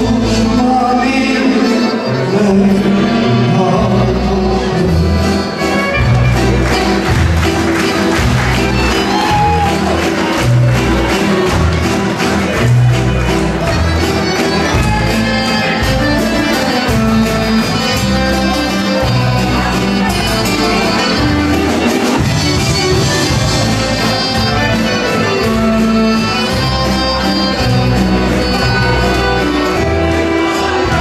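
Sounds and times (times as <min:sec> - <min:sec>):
acoustic guitar: 0:00.0 - 0:31.0
live band playing traditional song: 0:00.0 - 0:31.0.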